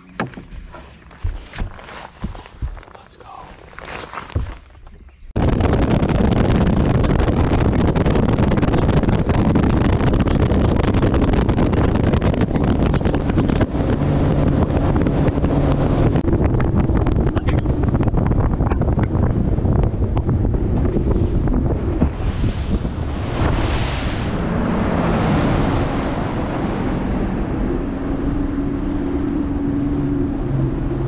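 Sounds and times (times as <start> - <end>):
outboard motor hum: 0.0 - 2.5, 4.3 - 31.0
wind buffeting microphone: 4.2 - 31.0.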